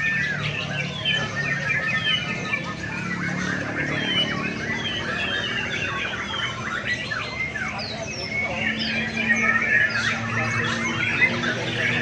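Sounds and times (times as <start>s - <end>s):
many songbirds singing: 0.0s - 12.0s.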